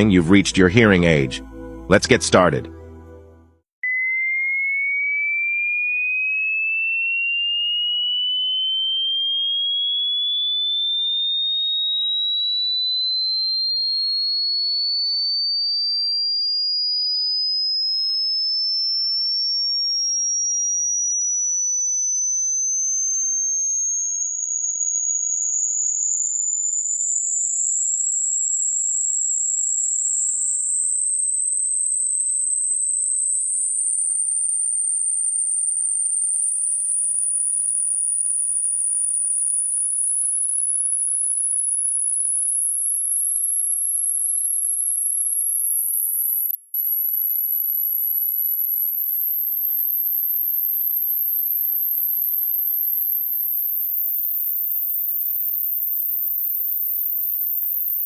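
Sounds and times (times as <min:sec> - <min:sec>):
rising sine test tone: 0:00.0 - 0:58.0.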